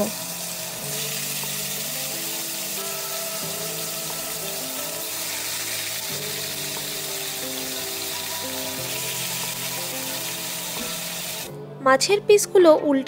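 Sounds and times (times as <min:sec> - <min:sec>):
fish frying in oil: 0:00.0 - 0:11.5
slow background music: 0:00.0 - 0:13.0.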